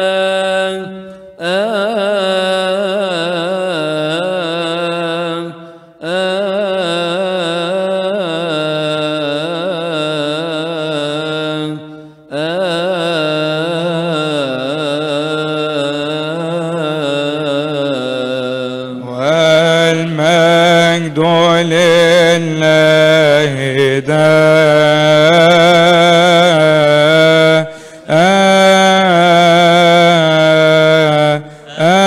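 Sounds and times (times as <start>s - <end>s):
man chanting: 0.0s - 32.0s.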